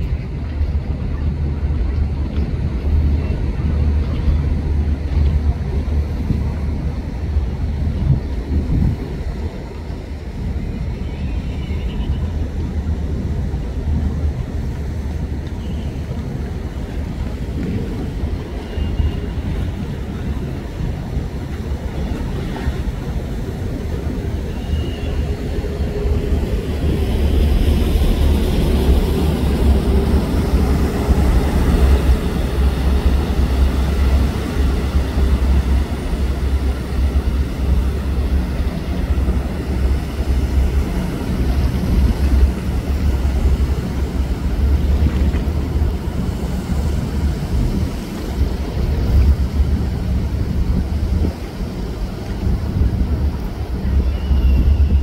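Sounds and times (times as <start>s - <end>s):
churning water: 0.0s - 55.0s
ferry engines rumbling: 0.0s - 55.0s
wind on microphone: 0.0s - 55.0s.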